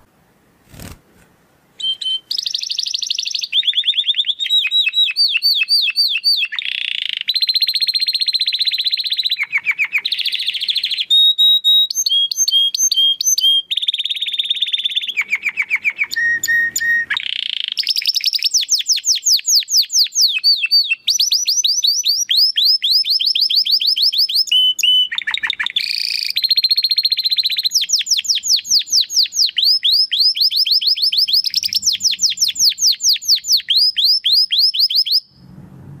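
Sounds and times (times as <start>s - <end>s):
canary singing trills: 1.8s - 35.4s.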